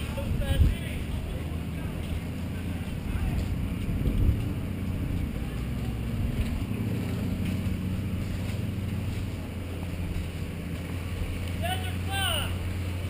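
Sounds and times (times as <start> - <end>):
small vehicle engine running: 0.8 - 13.0.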